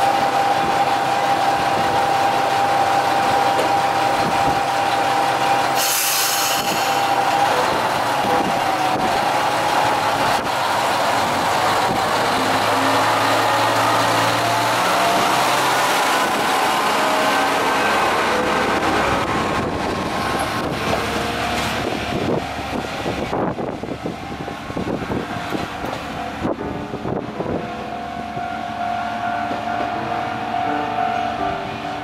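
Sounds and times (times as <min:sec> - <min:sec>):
diesel railcar engine running: 0:00.0 - 0:32.0.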